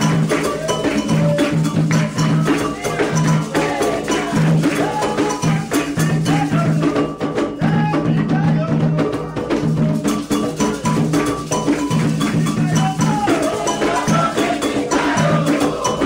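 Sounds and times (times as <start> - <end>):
hand drums in fast rhythm: 0.0 - 16.0
people singing: 0.0 - 16.0.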